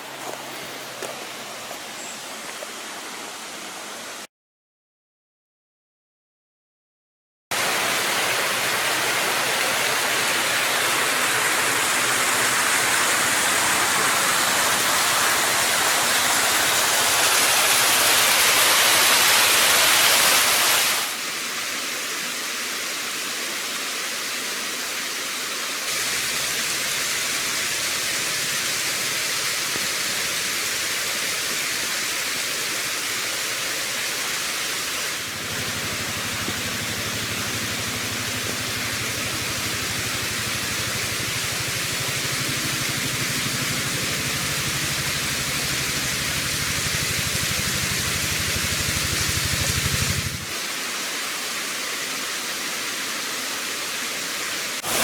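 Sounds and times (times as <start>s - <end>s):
creek water rushing: 0.0s - 4.2s, 7.5s - 55.0s.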